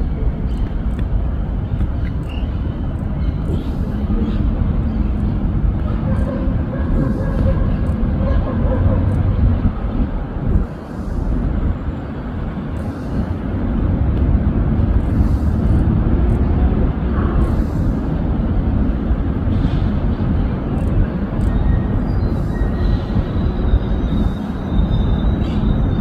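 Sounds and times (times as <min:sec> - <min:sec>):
city traffic rumble: 0:00.0 - 0:26.0
wind buffeting microphone: 0:00.0 - 0:26.0.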